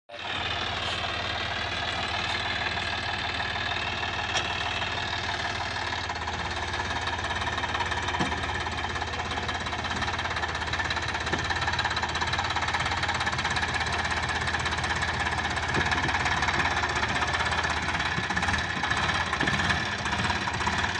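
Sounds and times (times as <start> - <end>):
tractor diesel engine under load: 0.1 - 20.9.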